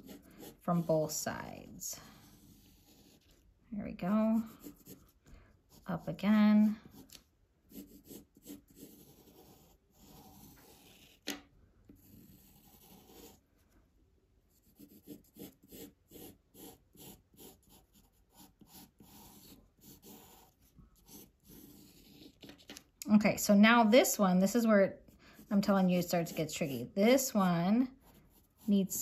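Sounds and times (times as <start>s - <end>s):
pencil scratching on paper: 0.0s - 13.4s, 14.5s - 22.7s, 24.0s - 29.0s.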